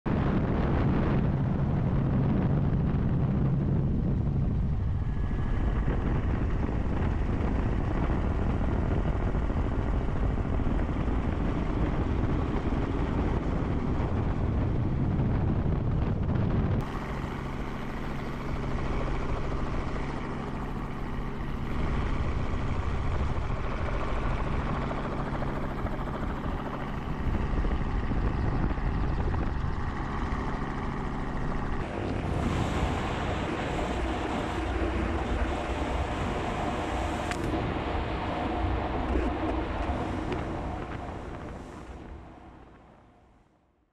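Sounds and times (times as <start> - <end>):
helicopter rotor and engine: 0.1 - 43.6.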